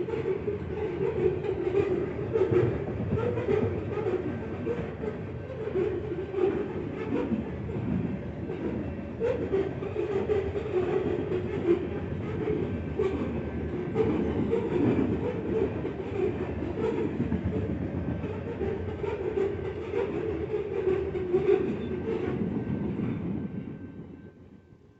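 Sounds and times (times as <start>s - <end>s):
train wheels rumbling on rail: 0.0s - 24.8s.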